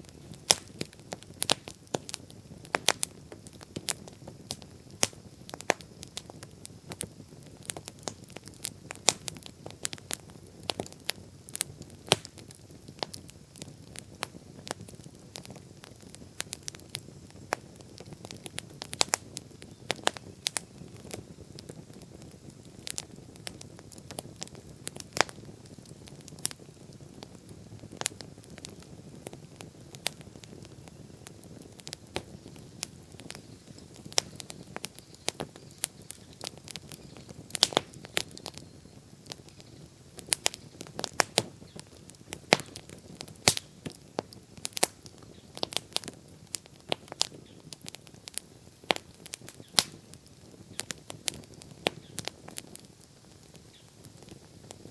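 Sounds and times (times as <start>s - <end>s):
bonfire pops and snaps: 0.0s - 54.9s
low rush of flames: 0.0s - 54.9s.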